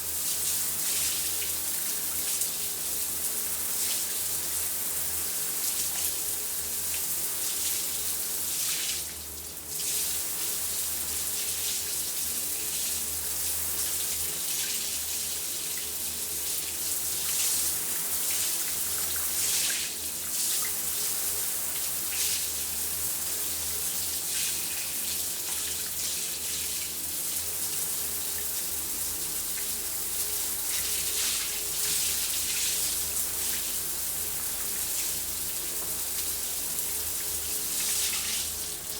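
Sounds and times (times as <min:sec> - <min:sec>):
shower running: 0:00.0 - 0:38.9.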